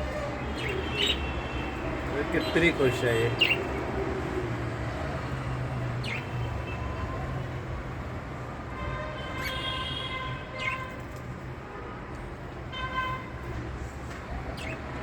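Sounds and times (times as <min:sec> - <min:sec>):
background traffic hum: 0:00.0 - 0:15.0.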